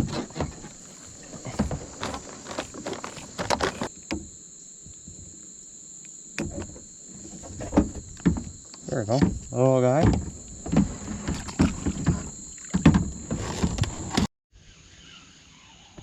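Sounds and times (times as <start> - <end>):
high-pitched insect drone: 0.0 - 13.6.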